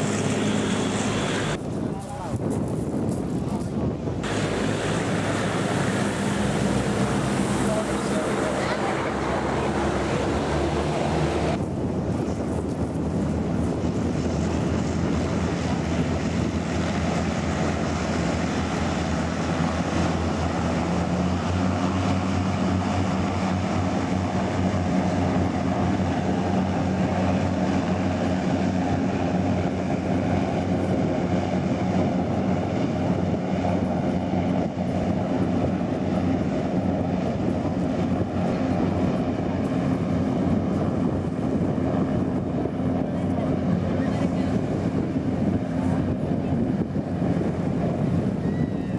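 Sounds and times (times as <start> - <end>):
hovercraft engine drone: 0.0 - 48.9.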